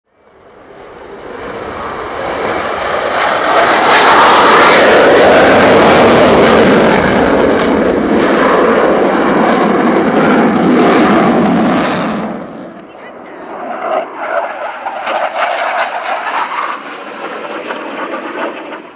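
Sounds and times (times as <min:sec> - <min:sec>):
jet engine roar: 0:00.1 - 0:18.9.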